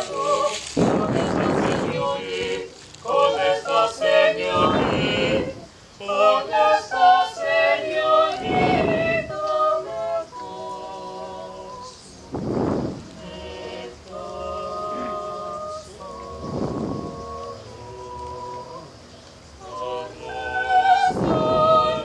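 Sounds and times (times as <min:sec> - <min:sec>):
group singing without instruments: 0:00.0 - 0:22.0.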